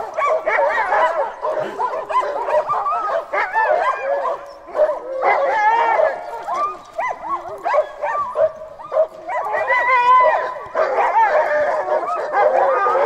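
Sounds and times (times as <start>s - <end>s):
sled dogs yipping and howling: 0.0s - 13.0s.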